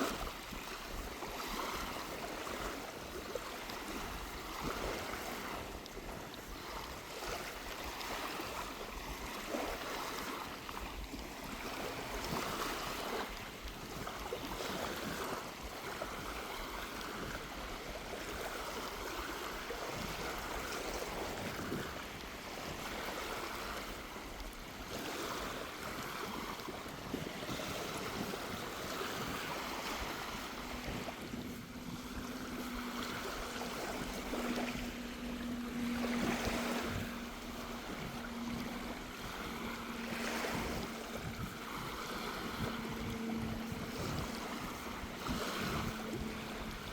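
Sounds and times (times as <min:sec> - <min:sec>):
small waves washing onto sand: 0:00.0 - 0:46.9.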